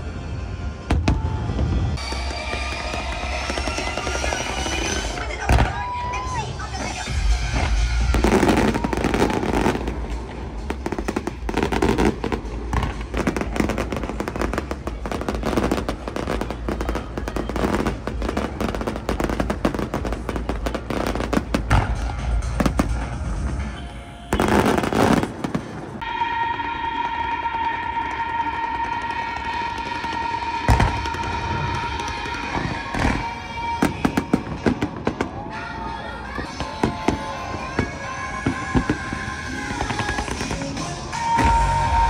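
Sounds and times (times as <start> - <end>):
fireworks crackling and banging: 0.0 - 42.0.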